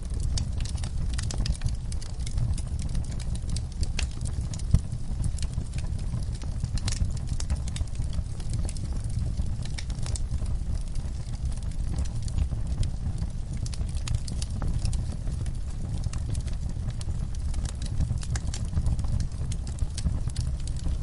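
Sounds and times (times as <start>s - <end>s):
rumble of flames: 0.0s - 21.0s
wood crackling and popping: 0.0s - 21.0s.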